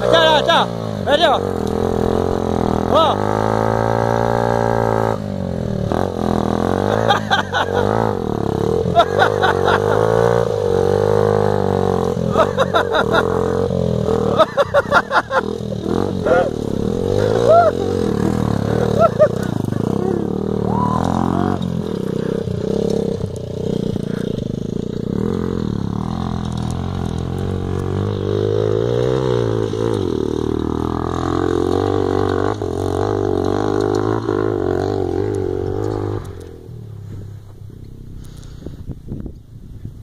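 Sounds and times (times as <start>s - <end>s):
dirt bike engine revving: 0.0s - 38.7s.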